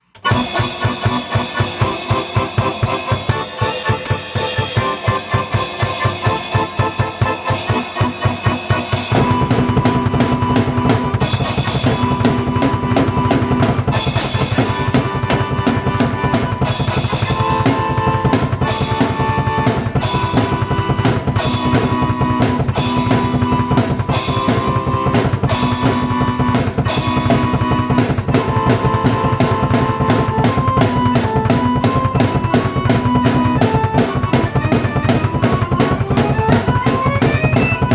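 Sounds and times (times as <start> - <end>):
bass line: 0.0 - 37.9
keyboard notes: 0.0 - 37.9
rock drum kit groove: 0.0 - 37.9.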